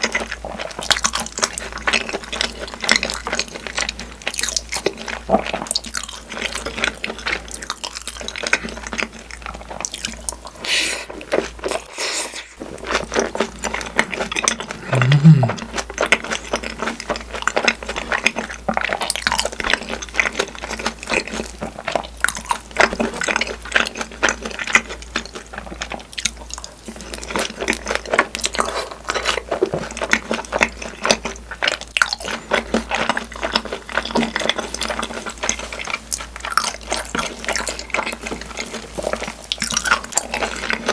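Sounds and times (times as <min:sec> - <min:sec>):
wet chewing and mouth sounds: 0:00.0 - 0:40.9.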